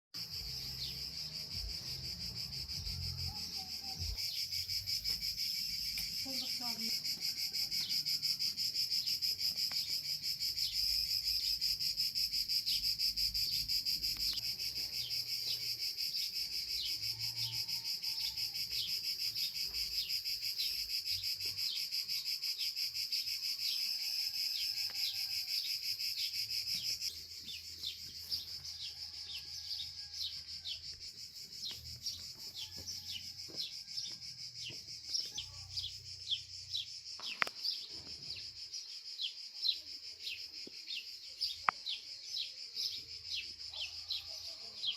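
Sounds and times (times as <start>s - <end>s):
crickets chirping: 0.2s - 44.9s.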